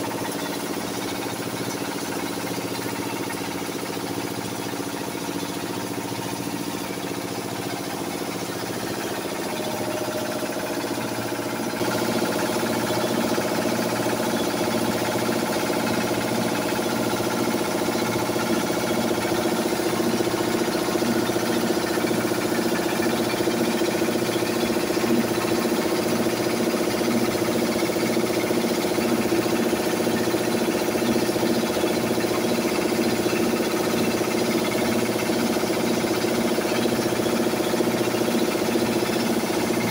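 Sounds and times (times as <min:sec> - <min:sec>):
grain mill grinding: 0:00.0 - 0:39.9.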